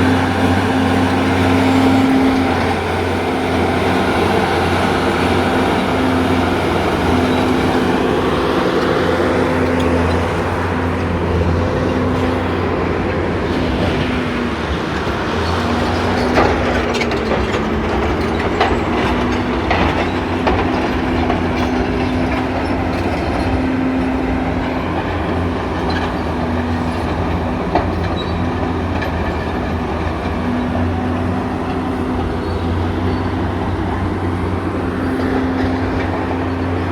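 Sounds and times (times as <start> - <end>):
bulldozer diesel engine running: 0.0 - 36.9
steel tracks clanking: 0.0 - 36.9.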